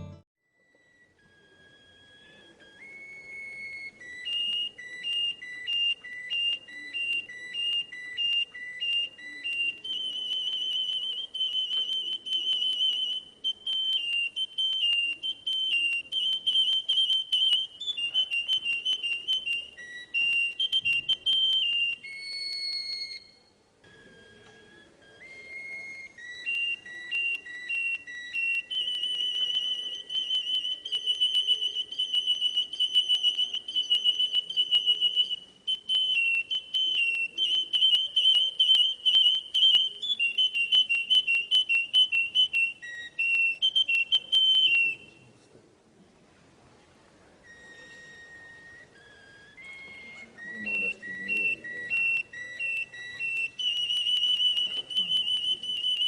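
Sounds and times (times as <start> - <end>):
canary singing: 0.0 - 45.3, 47.2 - 56.0.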